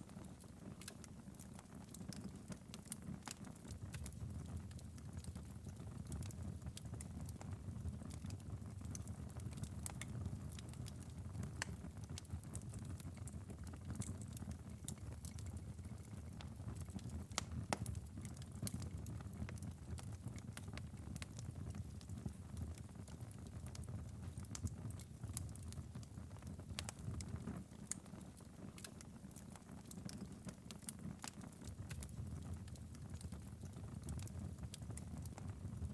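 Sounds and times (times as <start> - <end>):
wood fire popping and snapping: 0.0 - 35.9
low rumble of flames: 1.6 - 35.9.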